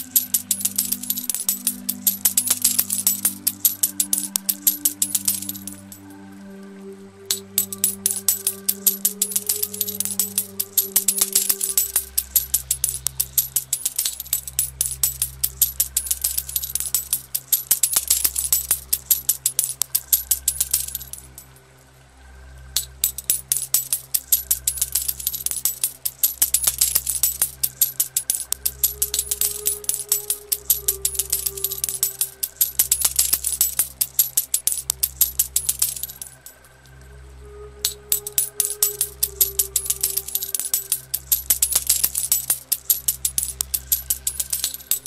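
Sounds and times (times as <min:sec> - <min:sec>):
coins clinking and tumbling: 0:00.0 - 0:06.1, 0:07.3 - 0:21.5, 0:22.8 - 0:36.7, 0:37.8 - 0:45.0
slow music with low notes: 0:00.0 - 0:45.0.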